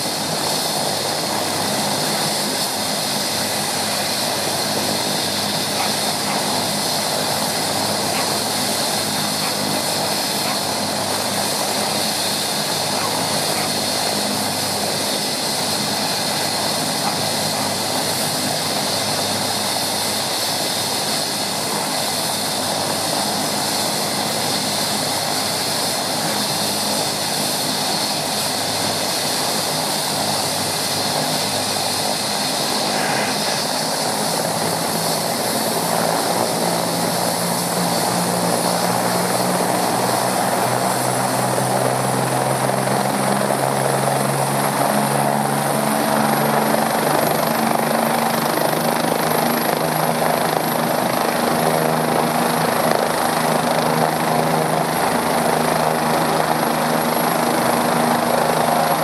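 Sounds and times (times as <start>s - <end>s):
helicopter rotor noise: 0.0s - 59.0s
helicopter turbine whine: 0.0s - 59.0s.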